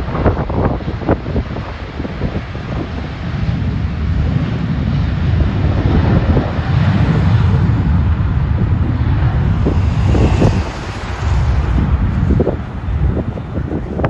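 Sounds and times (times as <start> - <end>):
wind buffeting microphone: 0.0 - 14.0
jet engine rumble: 0.7 - 14.0.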